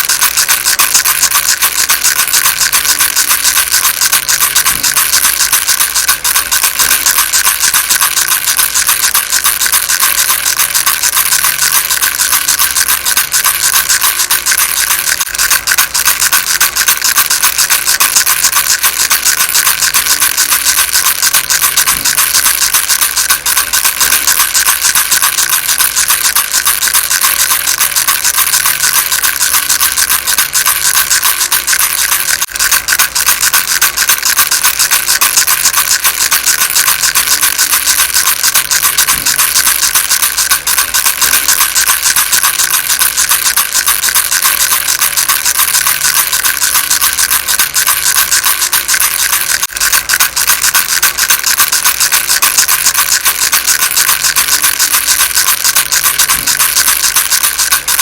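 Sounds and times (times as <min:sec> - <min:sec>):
baby rattle shaking: 0:00.0 - 0:58.0.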